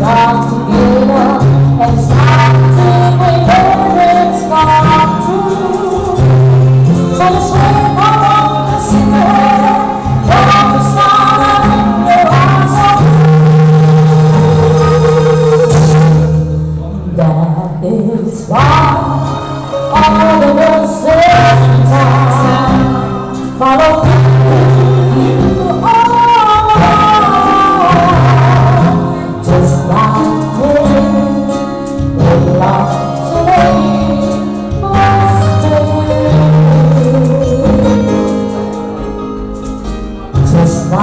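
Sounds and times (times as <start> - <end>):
keyboard accompaniment: 0.0 - 41.0
woman singing into microphone: 0.0 - 41.0.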